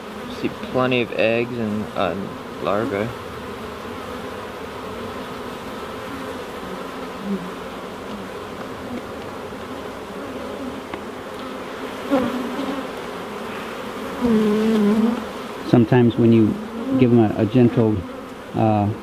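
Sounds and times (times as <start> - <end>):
bees buzzing: 0.0 - 19.0
bees droning past: 0.0 - 19.0.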